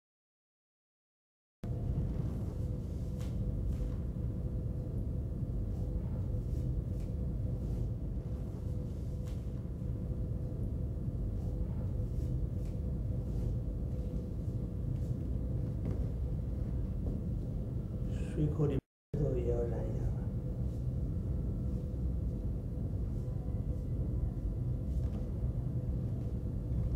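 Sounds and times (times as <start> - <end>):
low rumble and hum: 1.6 - 26.9.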